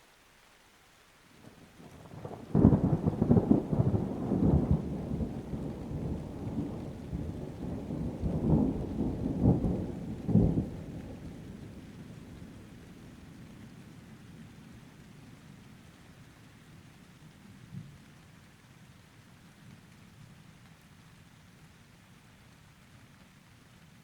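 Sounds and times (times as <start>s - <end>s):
rain: 0.0s - 24.0s.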